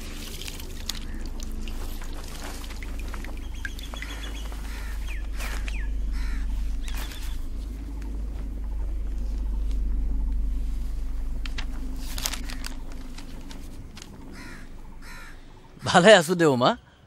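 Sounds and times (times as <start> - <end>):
steady low rumble: 0.0 - 15.9
birds calling and chirping: 0.0 - 16.3.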